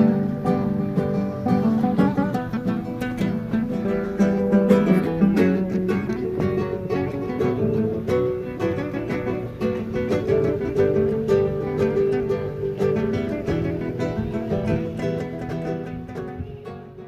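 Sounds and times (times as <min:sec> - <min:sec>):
acoustic guitar plucked melody: 0:00.0 - 0:17.0.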